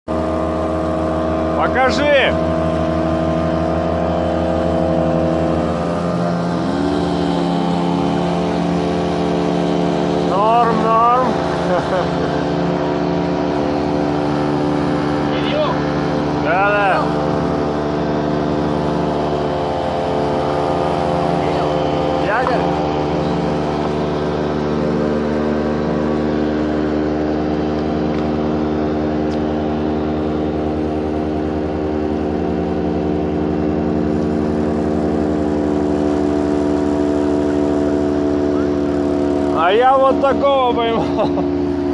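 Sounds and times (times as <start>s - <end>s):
motorboat engine running: 0.0s - 41.9s.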